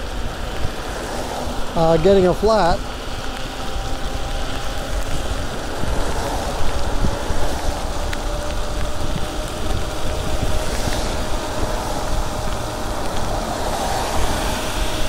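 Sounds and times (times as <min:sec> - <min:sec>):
tyres hissing on wet pavement: 0:00.0 - 0:15.0
wind rushing on microphone: 0:00.0 - 0:15.0.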